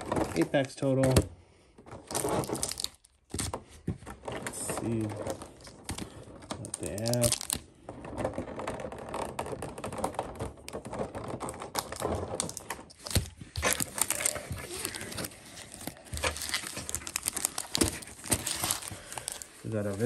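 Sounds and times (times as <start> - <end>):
foil packs crinkling: 1.9 - 3.5, 4.4 - 7.7, 8.3 - 20.0.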